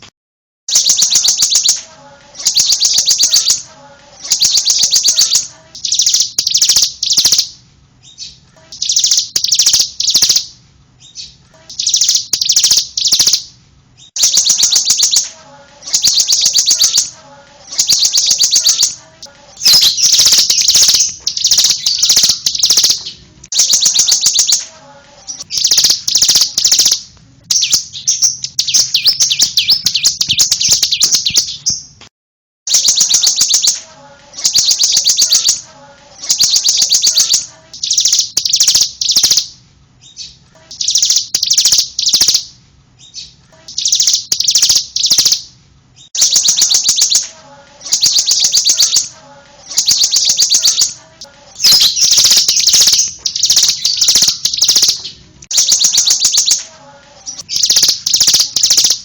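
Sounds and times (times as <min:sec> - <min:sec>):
bird singing rapid high trills: 0:00.7 - 0:32.0, 0:32.7 - 0:59.0.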